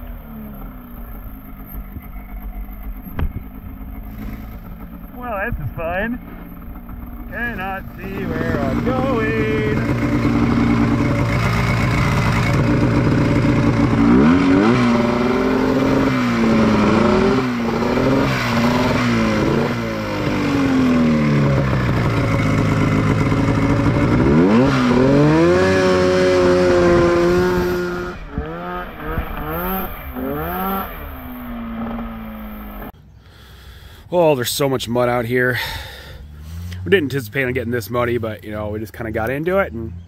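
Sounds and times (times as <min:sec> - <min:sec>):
two-stroke engine revving: 0:00.0 - 0:32.9.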